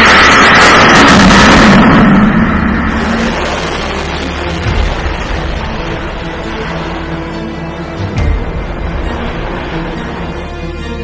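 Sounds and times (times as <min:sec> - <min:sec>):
rocket motor roar: 0:00.0 - 0:11.0.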